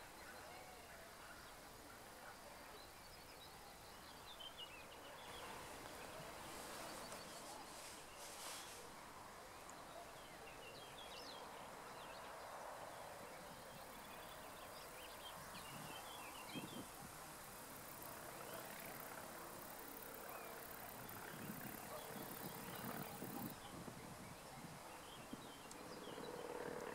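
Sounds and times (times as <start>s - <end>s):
steady outdoor hum: 0.0s - 26.9s.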